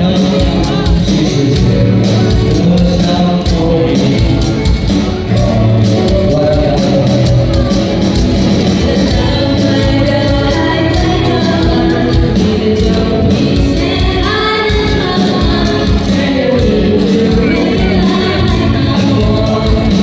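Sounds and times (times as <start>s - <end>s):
loud music with singing: 0.0s - 20.0s.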